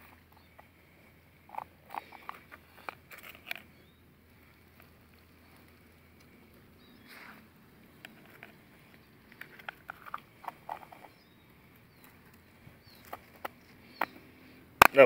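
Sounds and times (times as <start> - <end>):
rustling of dry leaves: 0.0 - 15.0.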